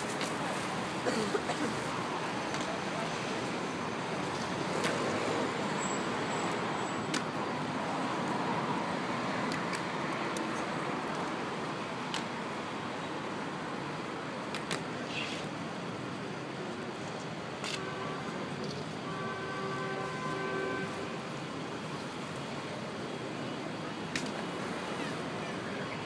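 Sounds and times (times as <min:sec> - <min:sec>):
city traffic: 0:00.0 - 0:26.0.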